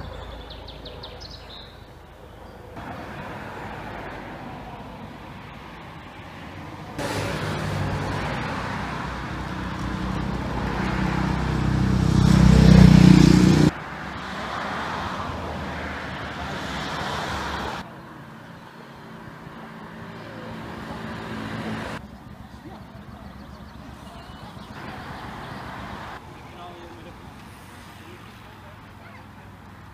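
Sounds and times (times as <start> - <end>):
faint road traffic: 0.0 - 29.9
vehicle engine approaching: 0.0 - 29.9.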